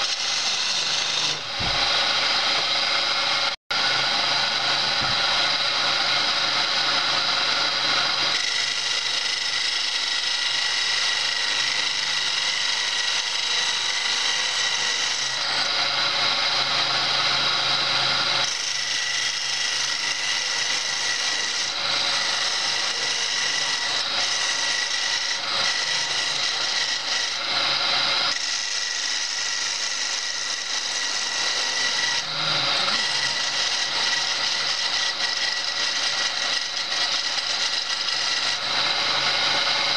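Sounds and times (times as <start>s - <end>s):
chisel scraping spinning wood: 0.0s - 39.9s
wood lathe whine: 0.0s - 39.9s.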